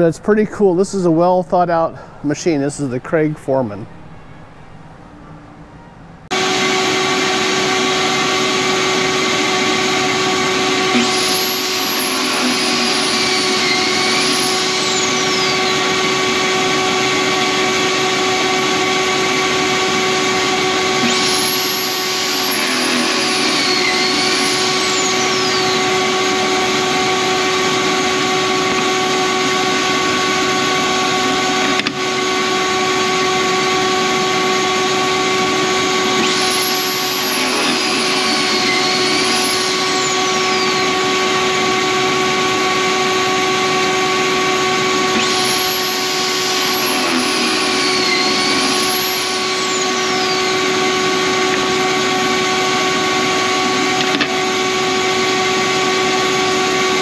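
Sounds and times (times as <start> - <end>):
drill motor drilling wood: 6.3 - 57.0
dust collector whining: 6.3 - 57.0.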